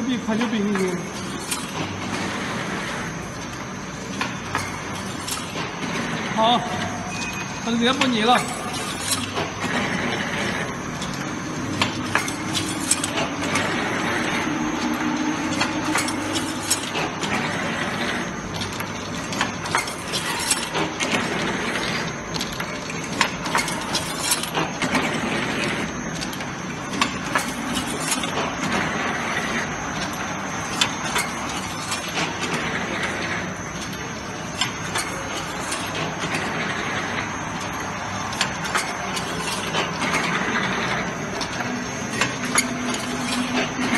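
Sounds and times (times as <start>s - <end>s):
wire forming machine clattering: 0.0s - 43.9s
sharp clicks and clanks: 0.4s - 43.9s.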